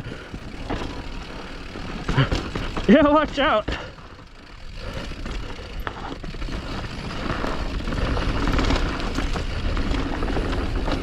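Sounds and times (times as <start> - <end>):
bike knocks and rattles: 0.0 - 11.0
tyres on dirt: 0.0 - 11.0.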